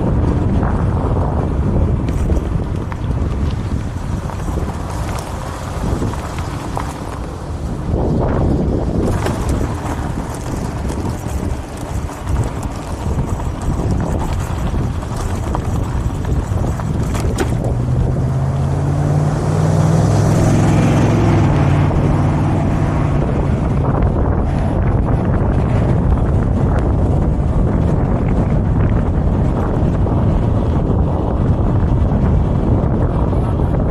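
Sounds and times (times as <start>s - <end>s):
engine humming: 0.0s - 33.9s
wind buffeting microphone: 0.0s - 33.9s.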